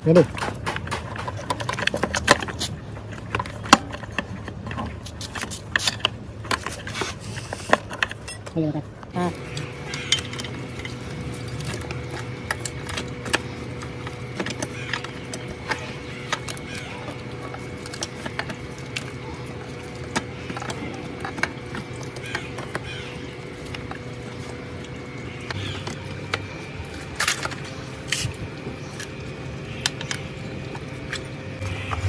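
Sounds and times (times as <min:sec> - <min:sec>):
steady hum: 0:00.8 - 0:32.0.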